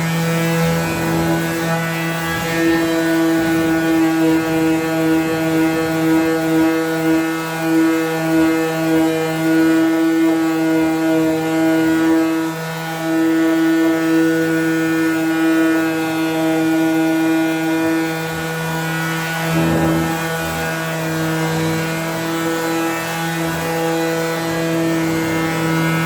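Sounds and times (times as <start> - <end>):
power sander sanding wood: 0.0 - 26.0.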